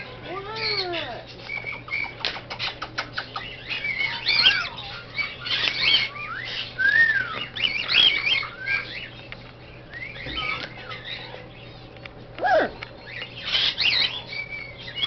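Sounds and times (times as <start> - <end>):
pet birds chirping and whistling: 0.0 - 15.0.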